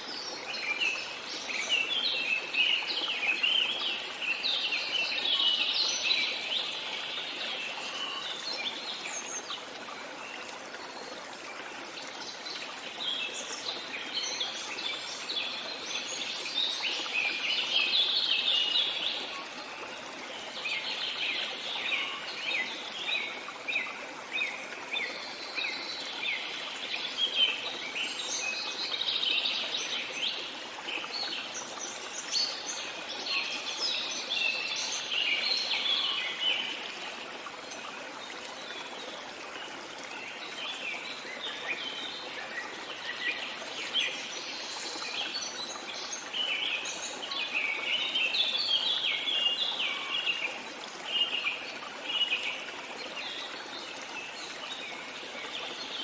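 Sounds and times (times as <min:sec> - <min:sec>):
running stream: 0:00.0 - 0:56.0.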